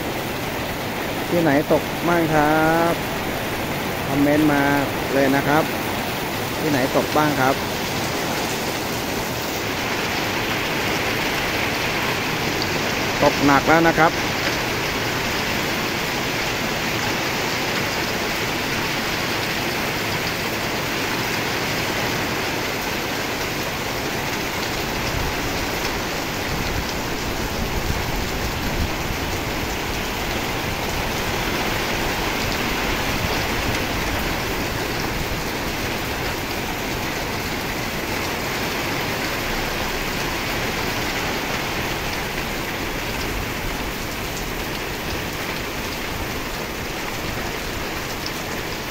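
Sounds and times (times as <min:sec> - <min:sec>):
heavy rain on a street: 0:00.0 - 0:48.9.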